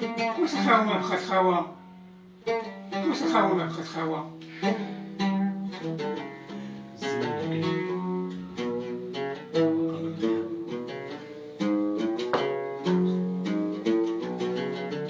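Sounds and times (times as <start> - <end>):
oud plucked notes: 0.0 - 15.0.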